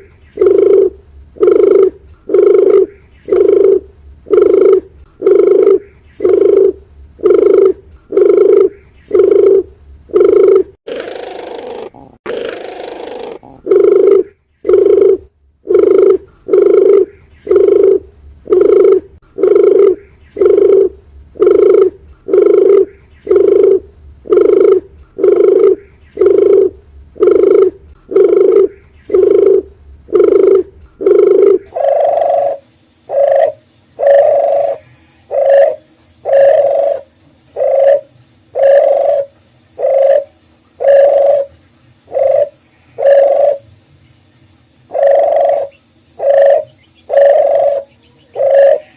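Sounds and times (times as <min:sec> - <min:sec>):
doves cooing: 0:00.0 - 0:43.7, 0:44.9 - 0:48.9
faint steady high whine: 0:00.0 - 0:48.9.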